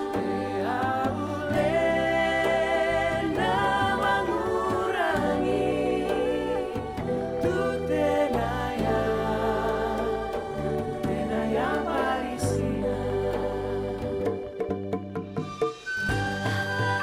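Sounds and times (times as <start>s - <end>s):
low musical accompaniment: 0.0s - 17.0s.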